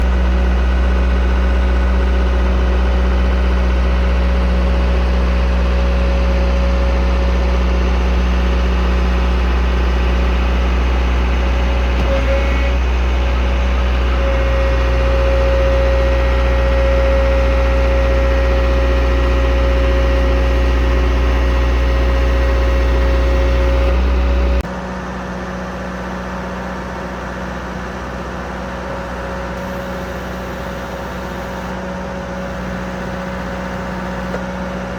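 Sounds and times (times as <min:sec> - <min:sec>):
diesel engine and hydraulics humming: 0:00.0 - 0:34.9.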